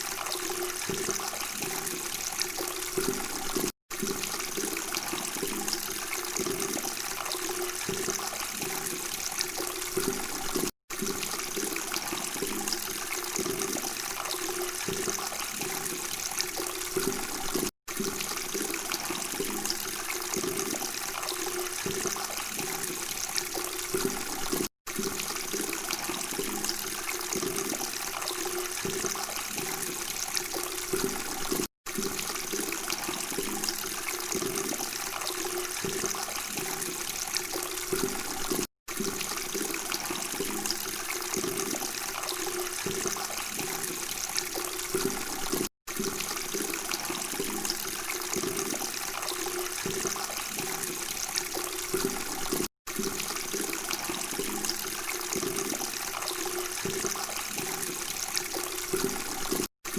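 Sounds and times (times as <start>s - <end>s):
water babbling and trickling: 0.0s - 59.9s.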